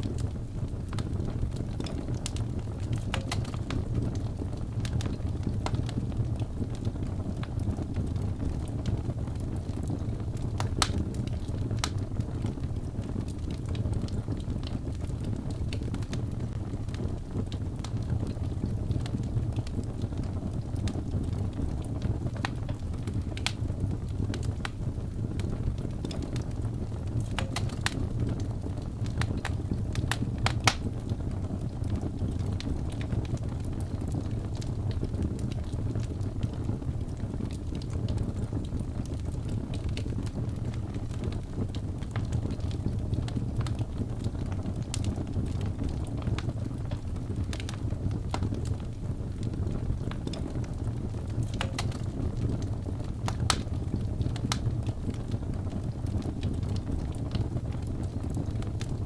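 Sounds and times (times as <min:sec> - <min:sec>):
fire rumbling: 0:00.0 - 0:59.0
logs crackling and popping: 0:00.0 - 0:59.0.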